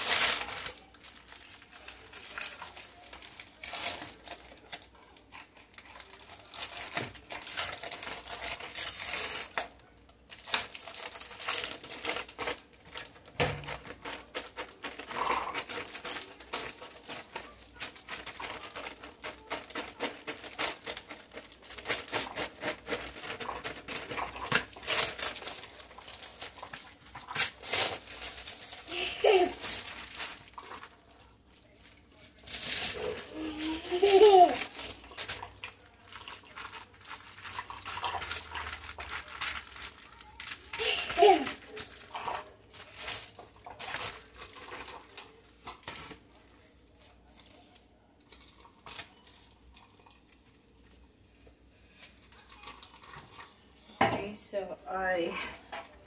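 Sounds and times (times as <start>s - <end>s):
crinkling and rustling: 0.0s - 54.4s.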